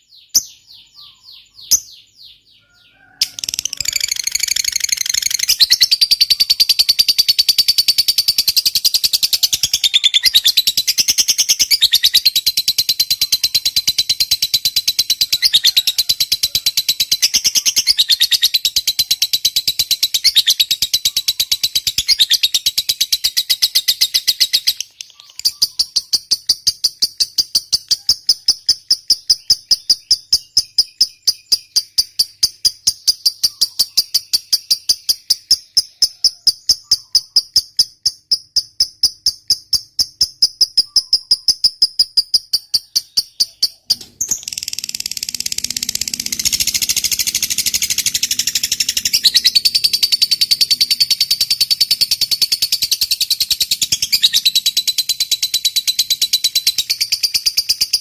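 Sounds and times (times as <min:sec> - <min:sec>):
lovebird chattering trill: 0:00.0 - 0:02.4, 0:03.2 - 0:58.0.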